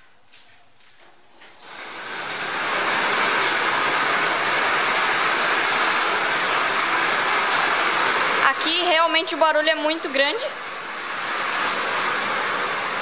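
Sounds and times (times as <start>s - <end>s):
water drumming on a metal roof: 1.6s - 13.0s.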